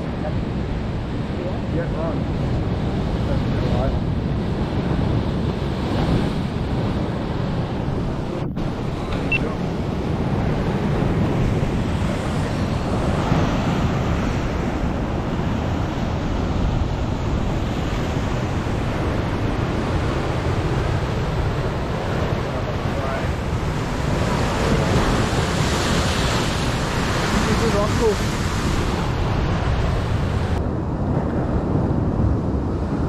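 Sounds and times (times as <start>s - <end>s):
surf breaking over rocks: 0.0s - 30.7s
wind buffeting microphone: 0.0s - 33.0s.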